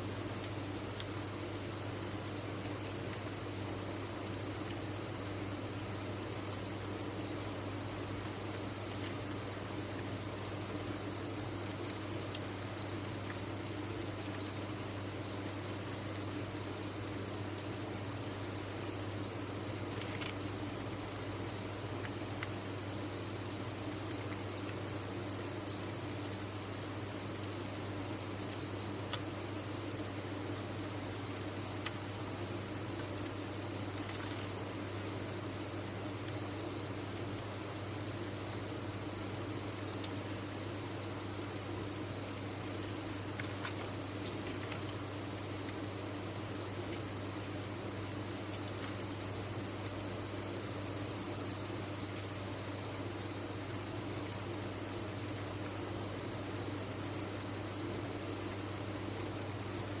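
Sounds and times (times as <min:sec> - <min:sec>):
crickets chirping in chorus: 0:00.0 - 1:00.0.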